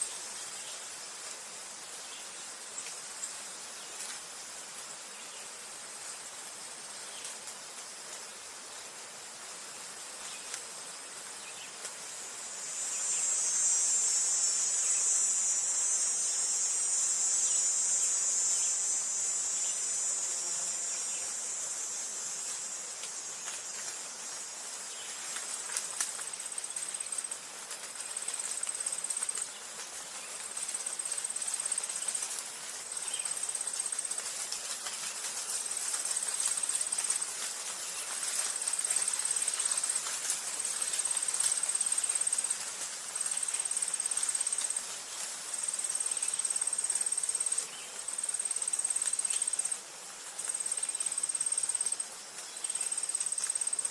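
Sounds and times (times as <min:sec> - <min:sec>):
faint outdoor hiss: 0:00.0 - 0:53.9
insects trilling: 0:00.0 - 0:53.9.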